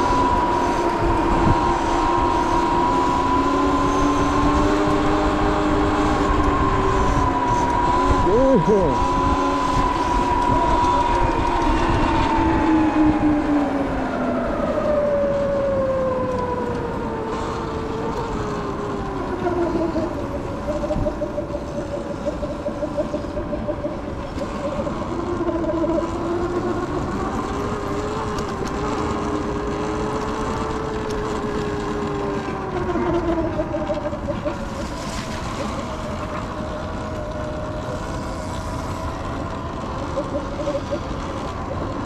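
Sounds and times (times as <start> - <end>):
electric motors whining: 0.0 - 42.0.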